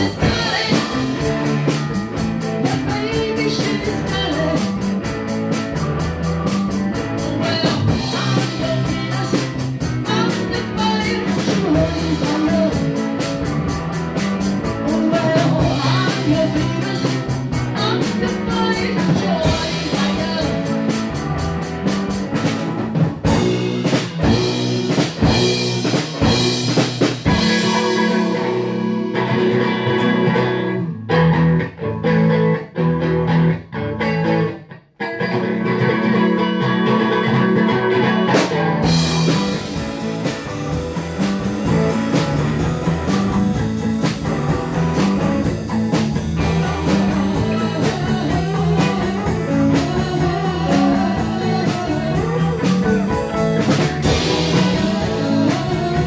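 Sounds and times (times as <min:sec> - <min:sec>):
high ticking drum beat: 0:00.0 - 0:30.0, 0:38.8 - 0:56.0
guitar: 0:00.0 - 0:56.0
rock band playing: 0:00.0 - 0:56.0.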